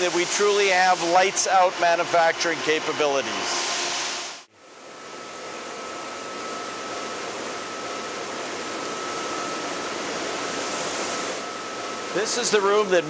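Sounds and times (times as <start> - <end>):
machines running with high whine: 0.0 - 13.0.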